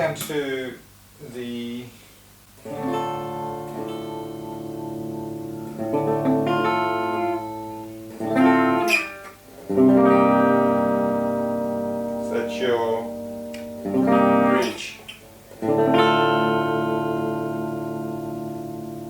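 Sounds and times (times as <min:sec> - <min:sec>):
electric guitar chords strummed: 0:02.6 - 0:19.0.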